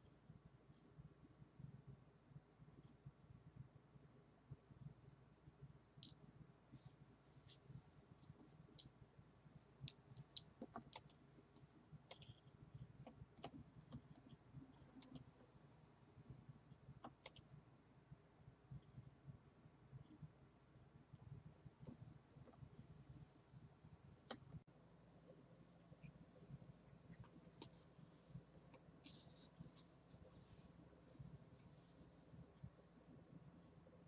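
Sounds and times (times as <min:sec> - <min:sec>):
low room hum: 0:00.0 - 0:34.0
faint irregular clicking: 0:04.5 - 0:17.6, 0:18.7 - 0:34.0.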